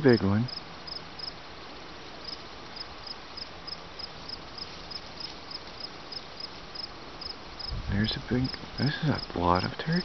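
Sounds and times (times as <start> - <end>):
cricket chirping: 0.0 - 10.0
faint outdoor hush: 0.0 - 10.0.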